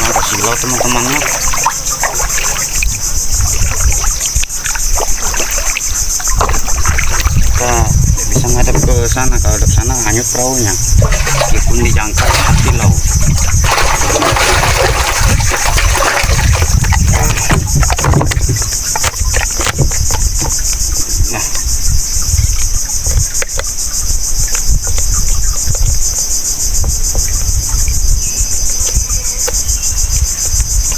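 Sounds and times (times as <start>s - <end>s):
insects chorus: 0.0s - 30.9s.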